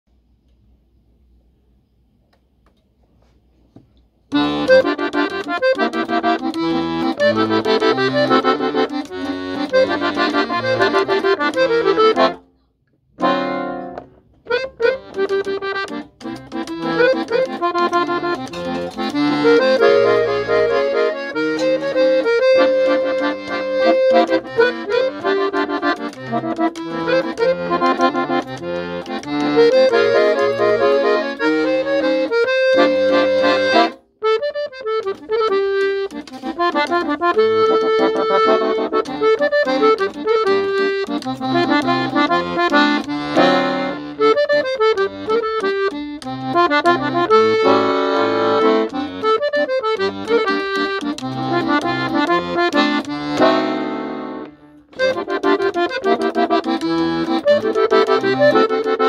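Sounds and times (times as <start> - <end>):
accordion playing samba tune: 4.3 - 12.5, 13.2 - 59.0.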